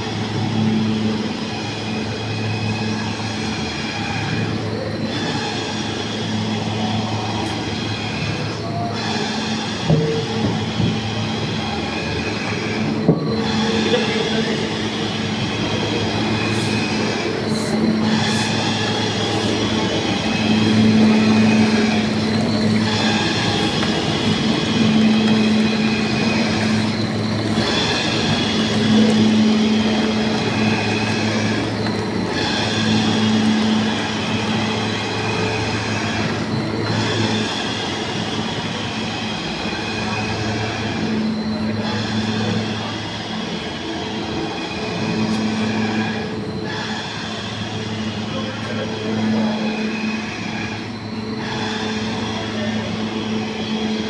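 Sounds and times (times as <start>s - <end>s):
machinery low hum: 0.0s - 54.0s.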